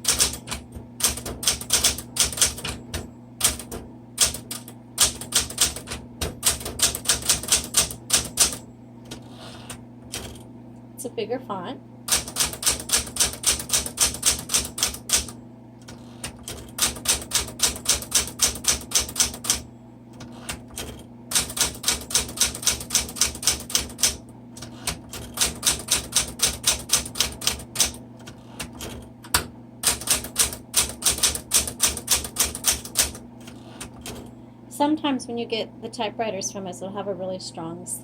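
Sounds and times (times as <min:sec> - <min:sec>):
manual typewriter keystrokes: 0:00.0 - 0:10.4, 0:12.1 - 0:19.6, 0:20.2 - 0:34.3.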